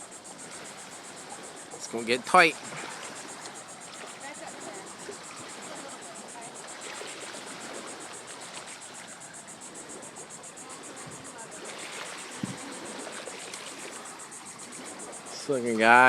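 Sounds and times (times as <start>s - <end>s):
insects trilling: 0.0s - 16.0s
water noise: 0.0s - 16.0s.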